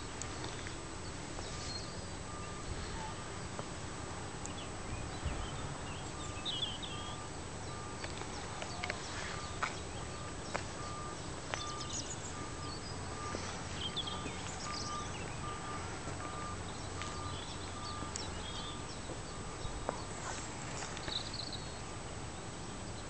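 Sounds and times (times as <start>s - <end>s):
faint electronic beeping: 0.0s - 21.8s
birds chirping: 0.0s - 23.0s.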